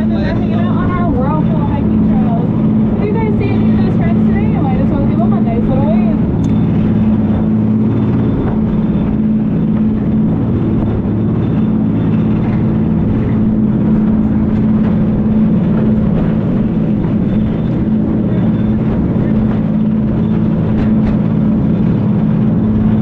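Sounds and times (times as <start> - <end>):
boat engine drone: 0.0 - 23.0
water noise: 0.0 - 23.0
wind noise: 0.0 - 23.0.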